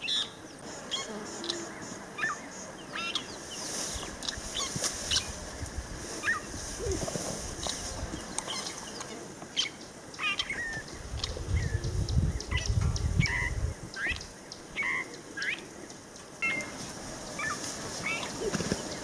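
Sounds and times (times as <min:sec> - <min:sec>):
wild birds chirping: 0:00.0 - 0:19.0.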